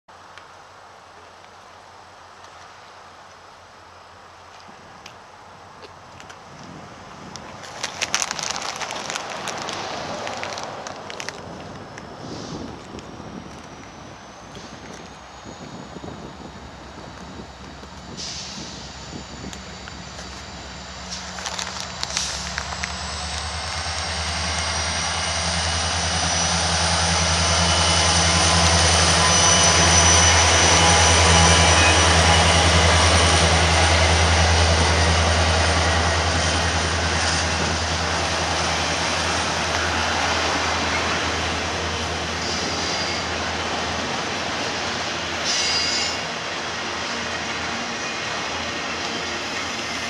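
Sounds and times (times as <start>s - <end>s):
locomotive engine drone: 0.2s - 50.0s
train cars rolling on track: 1.1s - 50.0s.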